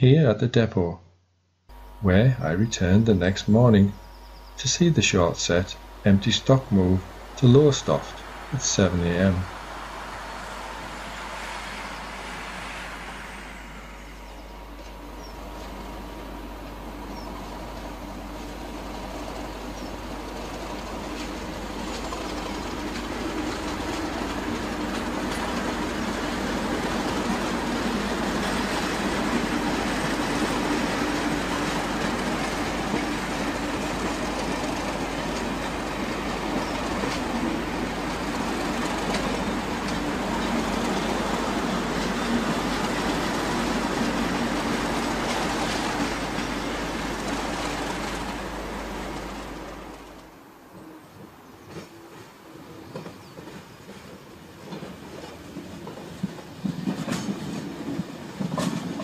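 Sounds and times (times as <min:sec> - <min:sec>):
diesel train passing: 0:01.7 - 0:59.0.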